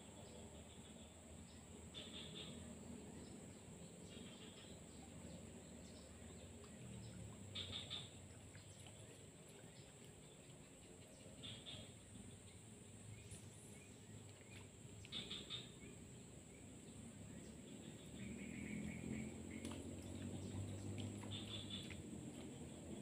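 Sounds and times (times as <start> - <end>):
low hum: 0.0 - 23.0
bird chirps: 4.0 - 23.0.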